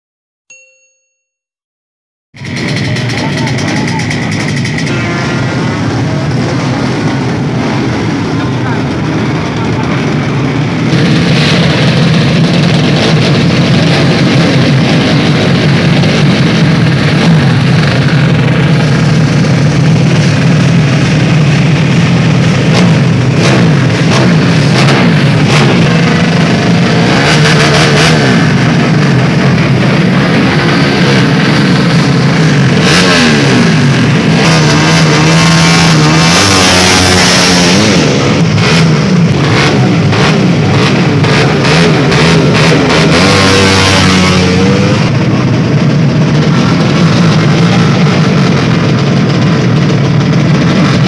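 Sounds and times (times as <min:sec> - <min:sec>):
motorcycle engines revving: 0:02.4 - 0:51.0.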